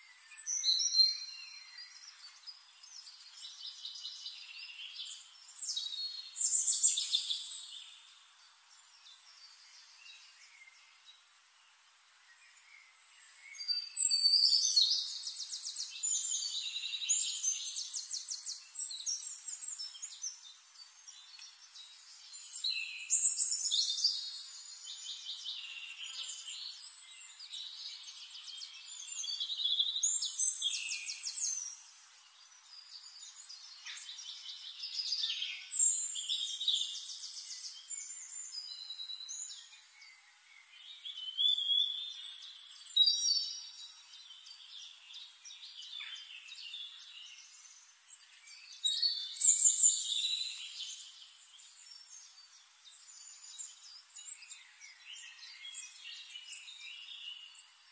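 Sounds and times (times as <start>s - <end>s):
songbirds trilling and chirping: 0.0s - 57.9s.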